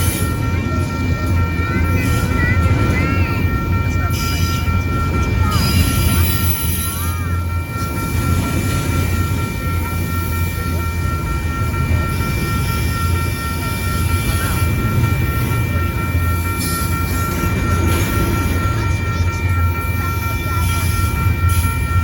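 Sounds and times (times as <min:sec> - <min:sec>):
high-pitched crossing tones: 0:00.0 - 0:22.0
train rumbling over rails: 0:00.0 - 0:22.0.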